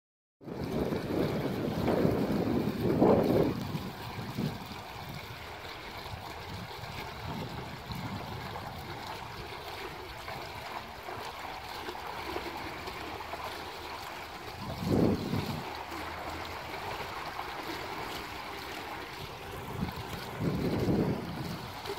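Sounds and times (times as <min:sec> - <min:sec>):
wind buffeting microphone: 0:00.4 - 0:11.3, 0:14.1 - 0:21.9
fountain splashing into pool: 0:00.4 - 0:21.9.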